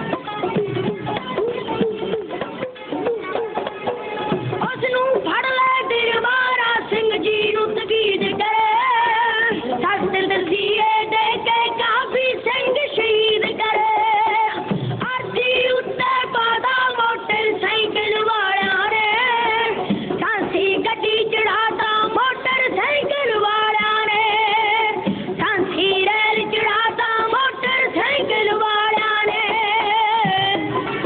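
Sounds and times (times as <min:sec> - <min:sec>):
high-pitched folk singing: 0:00.0 - 0:31.0
instrumental accompaniment: 0:00.0 - 0:31.0.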